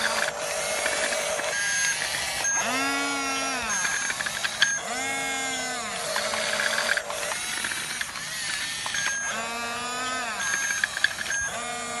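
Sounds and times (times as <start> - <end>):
electric motors whining: 0.0 - 12.0
tracks and gears clicking: 0.0 - 12.0.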